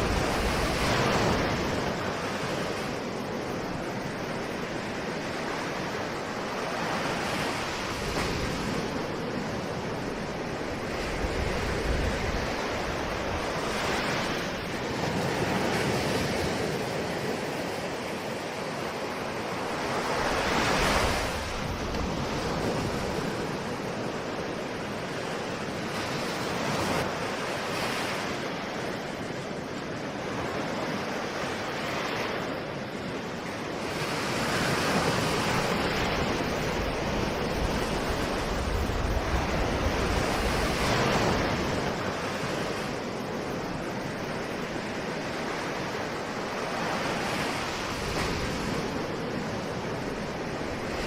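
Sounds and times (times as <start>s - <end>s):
ocean waves breaking on shore: 0.0s - 51.0s
wind on microphone: 0.0s - 51.0s.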